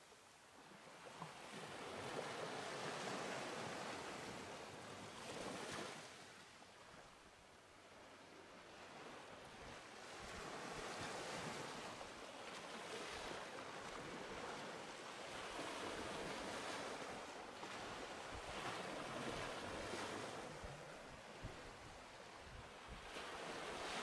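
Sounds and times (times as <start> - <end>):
small waves breaking on shore: 0.0 - 24.0.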